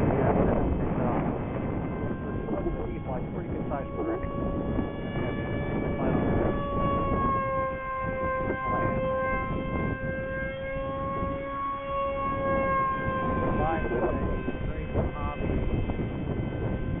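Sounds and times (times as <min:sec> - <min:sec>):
model jet motor whining: 0:00.0 - 0:17.0
wind on microphone: 0:00.0 - 0:17.0.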